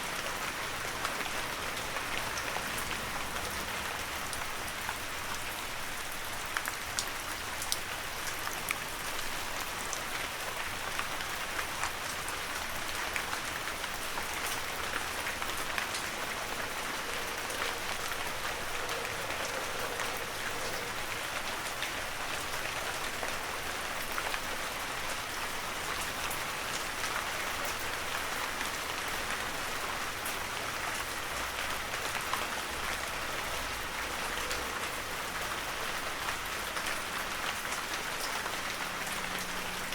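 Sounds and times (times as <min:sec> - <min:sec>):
heavy rain hiss: 0:00.0 - 0:11.8, 0:12.6 - 0:39.9
raindrops ticking on surfaces: 0:00.0 - 0:39.9.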